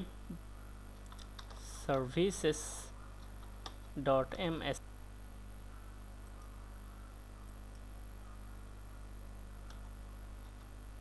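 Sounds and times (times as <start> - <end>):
low electrical hum: 0.0 - 11.0
microphone hiss: 0.0 - 11.0.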